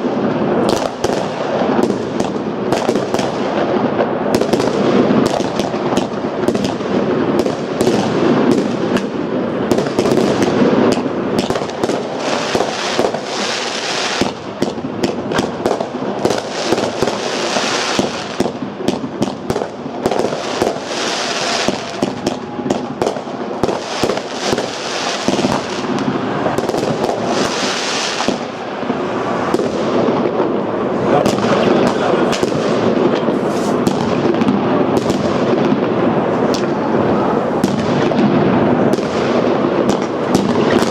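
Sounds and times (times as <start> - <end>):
high firework hiss: 0.0 - 35.5
fireworks bangs: 0.0 - 40.9.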